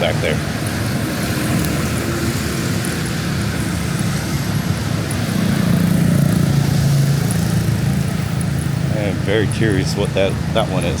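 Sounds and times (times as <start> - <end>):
vehicle passing close by: 0.0 - 9.5
hum of passing vehicles: 0.0 - 11.0.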